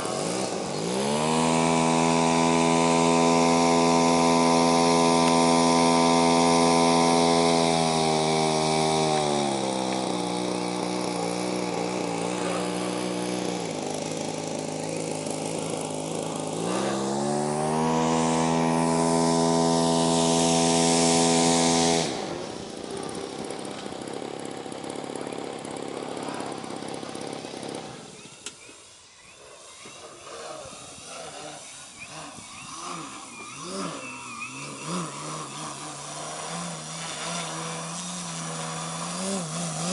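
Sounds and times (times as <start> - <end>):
model plane engine revving: 0.0 - 39.9.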